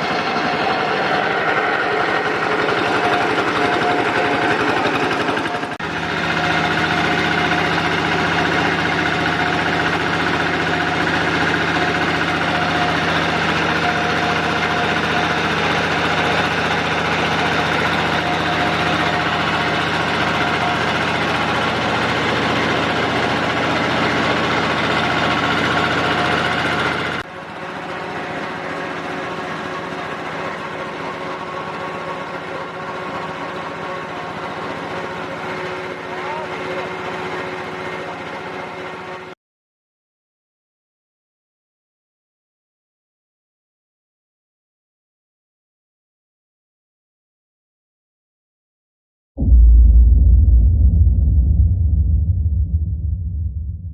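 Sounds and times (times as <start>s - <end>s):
machine mechanical drone: 0.0s - 39.3s, 49.4s - 53.9s.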